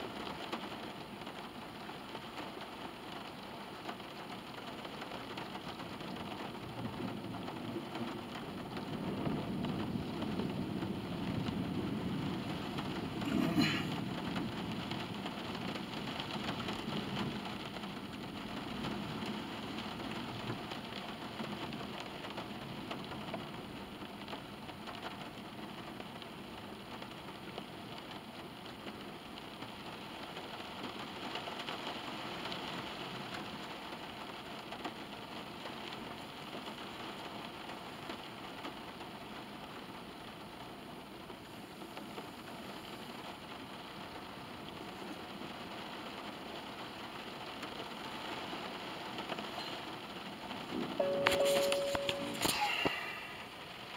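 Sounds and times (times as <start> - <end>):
rain drumming on car roof: 0.0 - 53.9.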